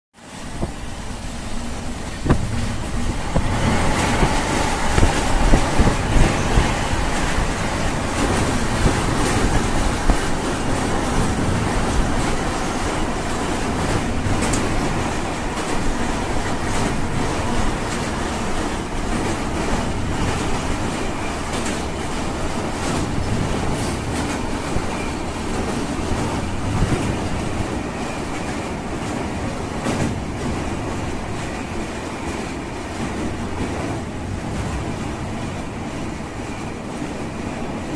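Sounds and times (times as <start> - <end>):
train rumbling on a bridge: 0.2 - 37.9
wheels clacking over rail joints: 0.5 - 37.9.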